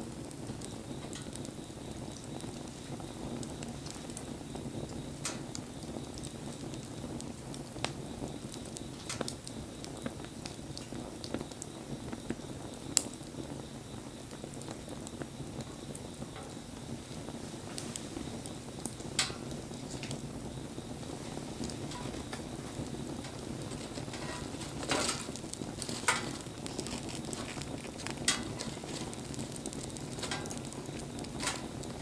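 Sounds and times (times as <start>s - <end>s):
campfire burning: 0.0s - 32.0s
loud fire pops: 0.0s - 32.0s.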